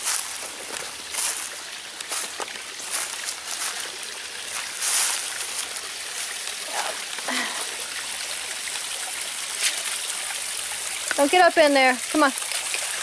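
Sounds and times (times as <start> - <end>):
creek water trickling over rocks: 0.0 - 13.0.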